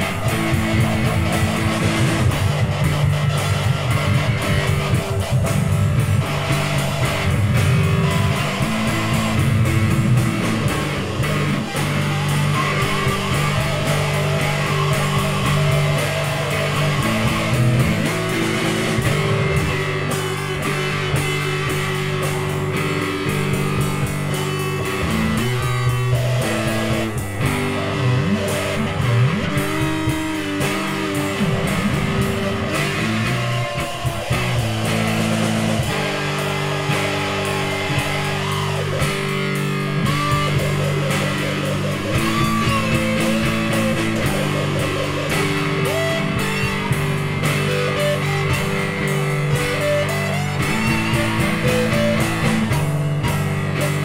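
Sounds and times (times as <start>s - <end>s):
drums: 0.0s - 54.0s
electric guitars: 0.0s - 54.0s.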